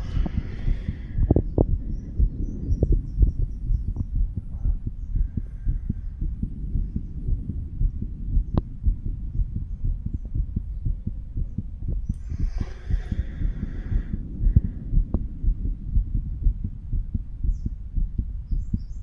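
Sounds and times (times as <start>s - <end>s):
heartbeat through stethoscope: 0.0s - 19.0s.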